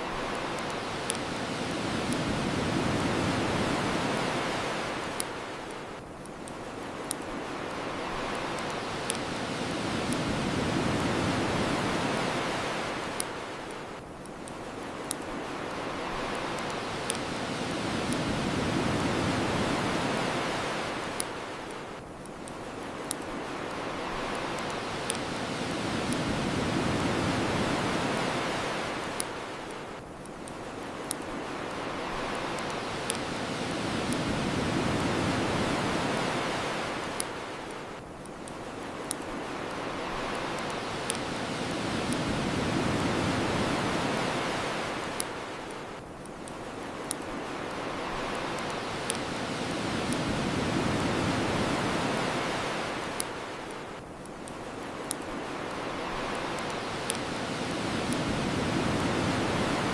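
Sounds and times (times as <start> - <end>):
bonfire crackling and popping: 0.0 - 59.9
ocean waves washing on shore: 0.0 - 59.9.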